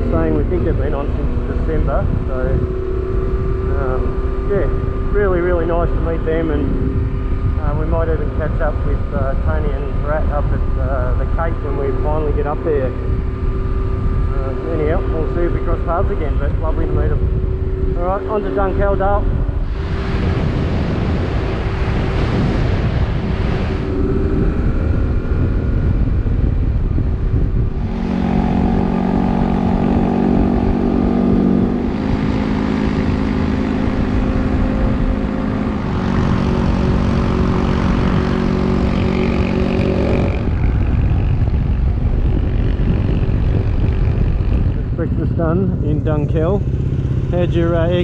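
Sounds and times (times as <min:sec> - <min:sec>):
heavy wind: 0:00.0 - 0:48.0
motorcycle engine cruising: 0:00.0 - 0:48.0
road rumble: 0:00.0 - 0:48.0.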